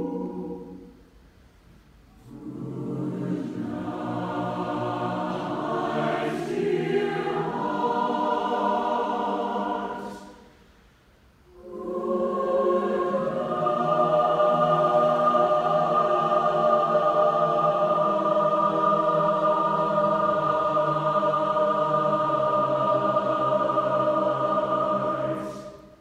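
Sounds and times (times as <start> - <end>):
mixed choir singing: 0.0 - 1.1, 2.2 - 10.5, 11.5 - 26.0.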